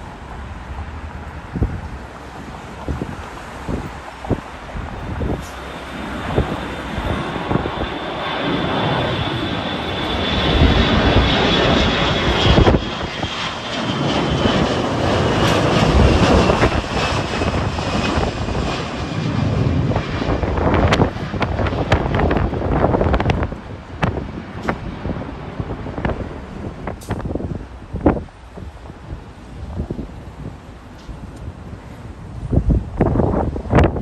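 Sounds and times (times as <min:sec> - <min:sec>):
high engine whine: 0:00.0 - 0:34.0
jet airliner passing: 0:00.0 - 0:34.0
wind buffeting microphone: 0:00.0 - 0:34.0.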